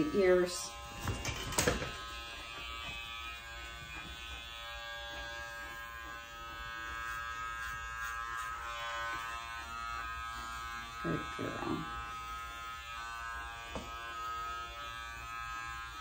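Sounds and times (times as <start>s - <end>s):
electric clipper buzzing: 0.0s - 16.0s.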